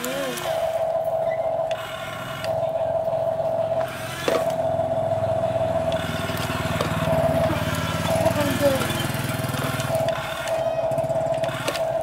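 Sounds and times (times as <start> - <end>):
toy motors whirring: 0.0 - 12.0.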